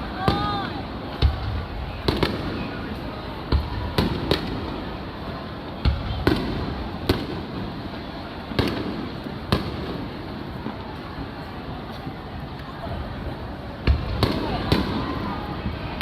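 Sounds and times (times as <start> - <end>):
fireworks bursting with sharp bangs: 0.0 - 12.4, 13.0 - 16.0
steady background noise: 0.0 - 16.0.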